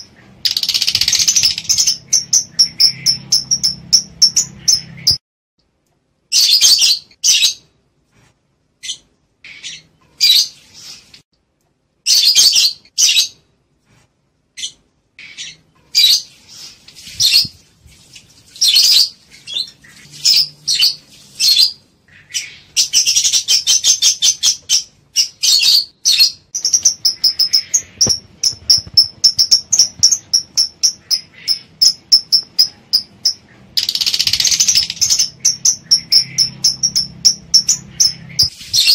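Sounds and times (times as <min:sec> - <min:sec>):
lovebirds chirping: 0:00.0 - 0:05.2, 0:08.8 - 0:11.2, 0:14.6 - 0:38.9.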